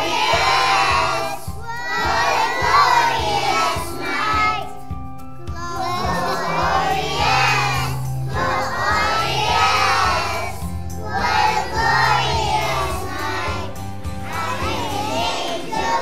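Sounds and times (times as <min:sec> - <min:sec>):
children singing: 0:00.0 - 0:04.8, 0:05.5 - 0:16.0
instrumental accompaniment: 0:00.0 - 0:16.0.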